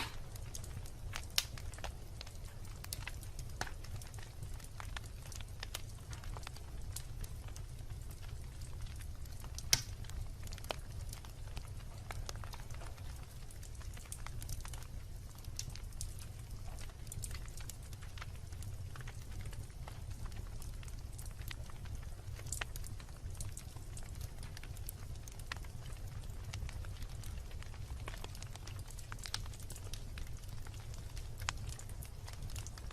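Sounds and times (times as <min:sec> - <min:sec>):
bonfire crackling and popping: 0:00.0 - 0:32.9
low rumble of burning fire: 0:00.0 - 0:32.9.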